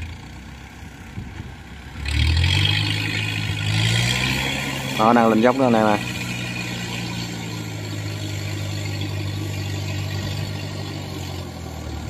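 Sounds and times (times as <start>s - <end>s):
crawler carrier engine under load: 0.0s - 12.0s.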